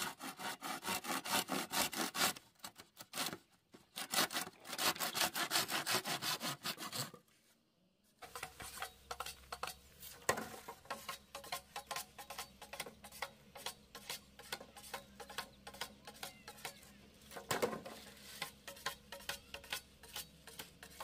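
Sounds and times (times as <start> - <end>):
hand saw cutting bamboo: 0.0 - 7.2, 8.2 - 21.0.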